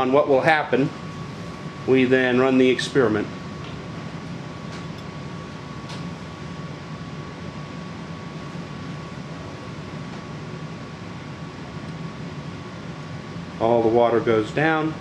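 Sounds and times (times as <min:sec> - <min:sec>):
faint steady whine: 0:00.0 - 0:15.0
ventilation hum and hiss: 0:00.0 - 0:15.0.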